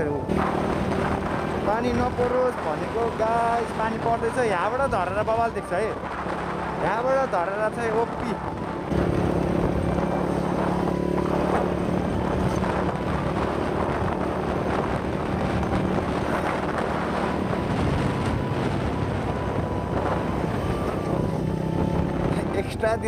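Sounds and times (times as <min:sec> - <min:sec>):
wind noise on microphone: 0:00.0 - 0:23.0
dirt bike engine running: 0:00.3 - 0:22.6.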